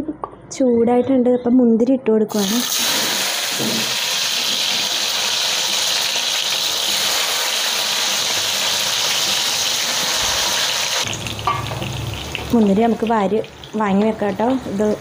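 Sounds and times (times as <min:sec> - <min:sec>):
raisins sizzling in hot fat: 0:02.3 - 0:15.0.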